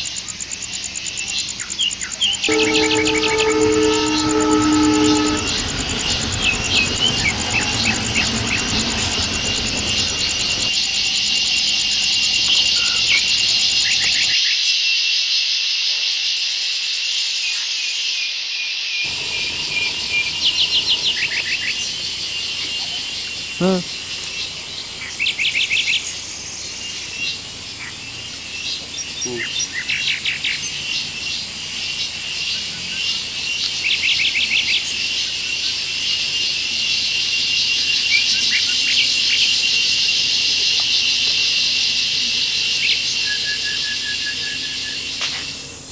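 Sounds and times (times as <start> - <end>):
brief insect call: 0.0 - 14.7, 19.0 - 45.9
crickets and cicadas chorus: 0.0 - 45.9
insect rapid trills: 0.0 - 45.9.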